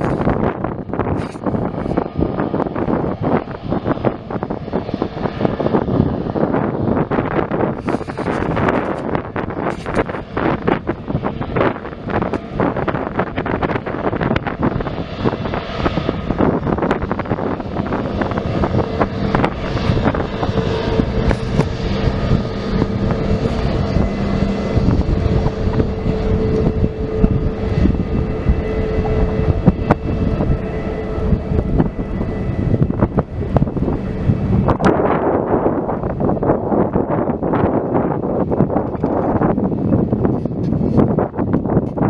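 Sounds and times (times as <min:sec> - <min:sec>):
airplane engines whining: 0:00.0 - 0:42.0
wind buffeting microphone: 0:00.0 - 0:42.0.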